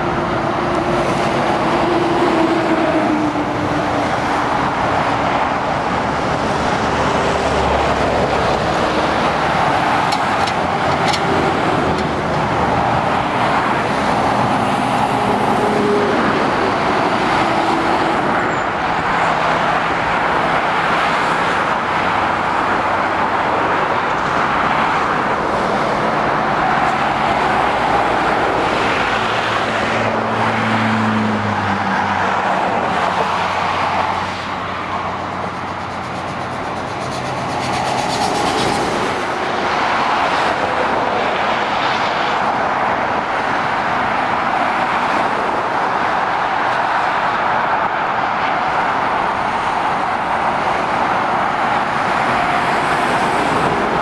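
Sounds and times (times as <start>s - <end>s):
motorway traffic rushing past: 0.0s - 54.0s.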